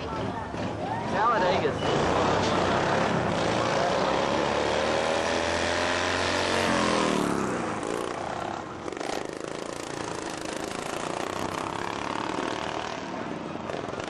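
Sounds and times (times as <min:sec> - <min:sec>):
faint background engine: 0:00.0 - 0:14.0
riding lawnmower engine passing: 0:00.0 - 0:14.0.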